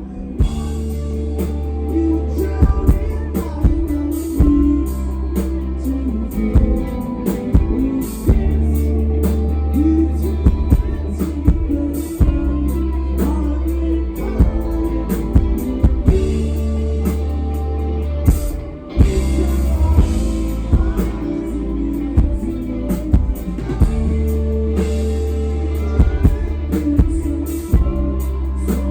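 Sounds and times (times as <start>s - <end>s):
person singing: 0.0s - 28.9s
indie rock band playing: 0.2s - 28.9s.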